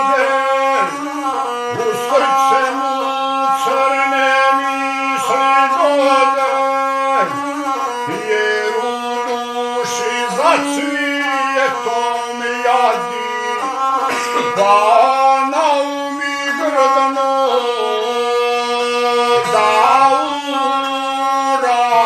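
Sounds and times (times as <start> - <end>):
bowed single-string fiddle: 0.0 - 22.0
man singing folk song: 0.0 - 22.0.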